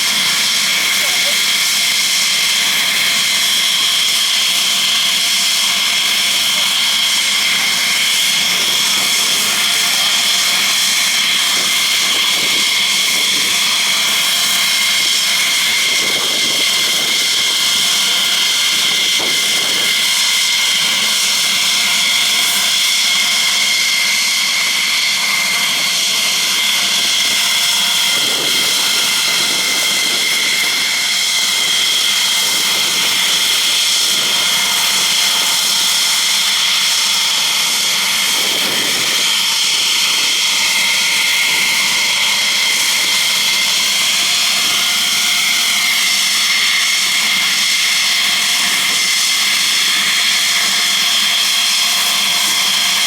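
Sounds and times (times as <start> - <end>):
jet engines whining: 0.0 - 53.0.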